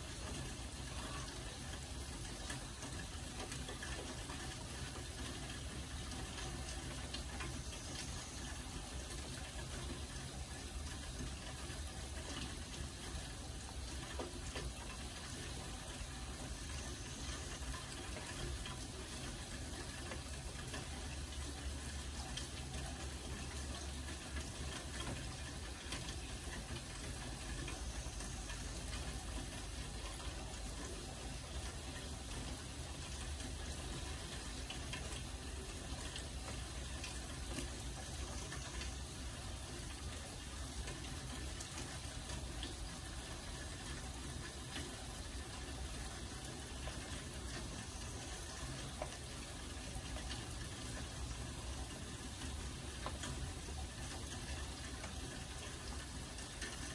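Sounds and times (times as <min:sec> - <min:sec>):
rain drop ticks: 0:00.0 - 0:56.9
steady rain falling: 0:00.0 - 0:56.9.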